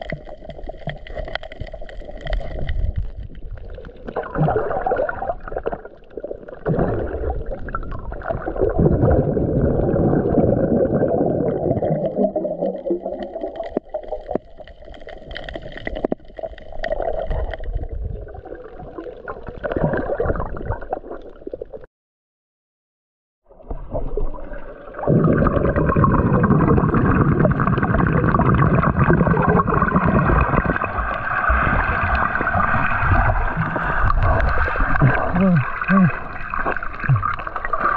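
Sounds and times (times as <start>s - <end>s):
water gurgling underwater: 0.0s - 21.9s, 23.5s - 37.9s.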